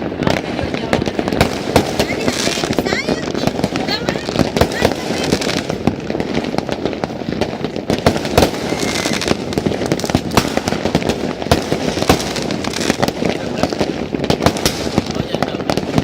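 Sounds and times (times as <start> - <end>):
fireworks bangs and crackles: 0.0 - 16.0
loud firework bursts: 0.0 - 16.0.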